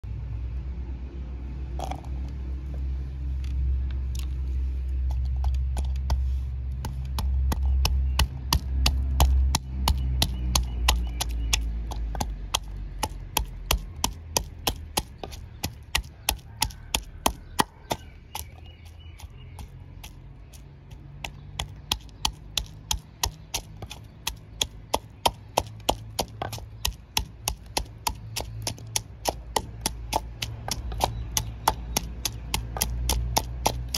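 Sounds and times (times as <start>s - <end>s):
pestle pounding in wooden mortar: 5.1s - 33.9s.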